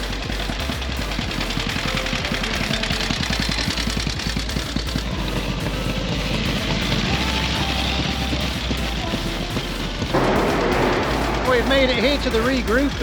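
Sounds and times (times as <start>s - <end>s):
old motorcycle engine running: 0.0s - 13.0s.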